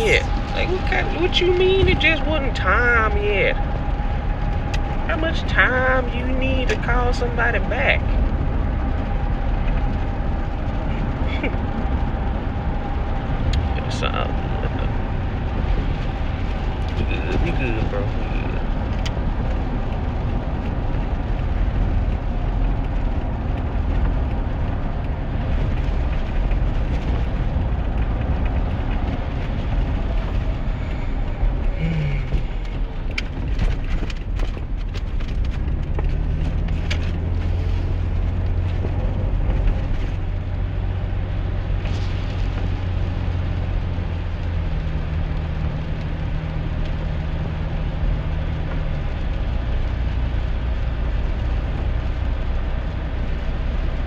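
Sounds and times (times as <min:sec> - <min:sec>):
engine and tyre noise in cab: 0:00.0 - 0:54.0
low engine hum: 0:00.0 - 0:54.0.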